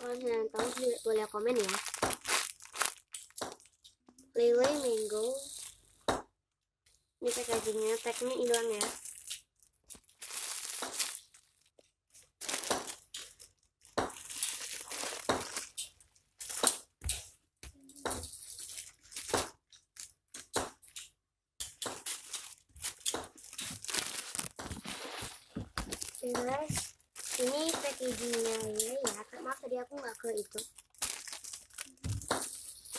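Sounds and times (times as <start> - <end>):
plastic packaging crinkling: 0.0 - 5.8, 7.2 - 17.0, 17.8 - 21.0, 21.7 - 32.9.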